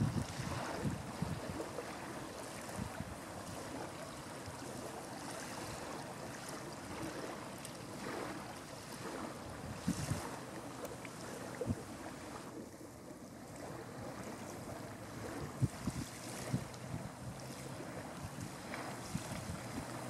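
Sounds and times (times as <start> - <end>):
wind on microphone: 0.0 - 4.6, 5.3 - 12.5, 13.5 - 20.0.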